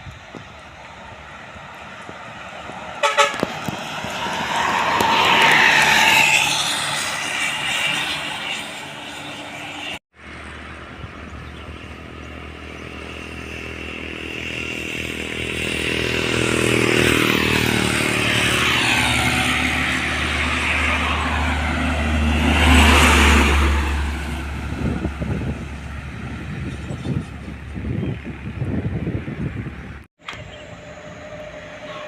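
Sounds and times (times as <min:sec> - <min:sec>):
truck passing on highway: 0:00.1 - 0:32.0.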